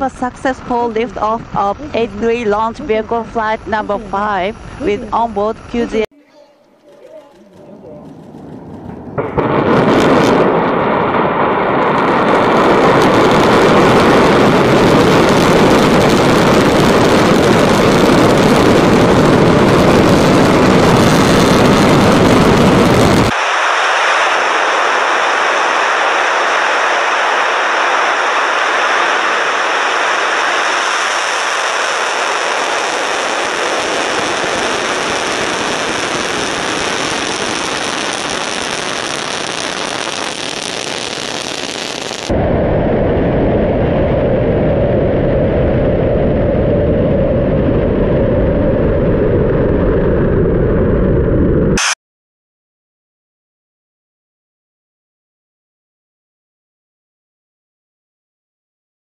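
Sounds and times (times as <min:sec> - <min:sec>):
rocket engines roaring: 0:00.0 - 0:52.0.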